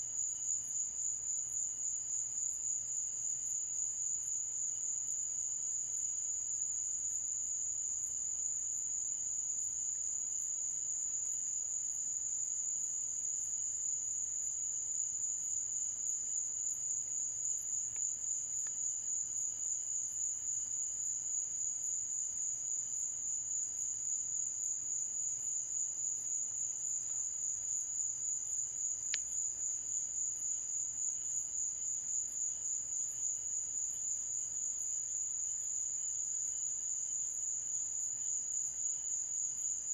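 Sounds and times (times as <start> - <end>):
night insects trilling: 0.1 - 39.9.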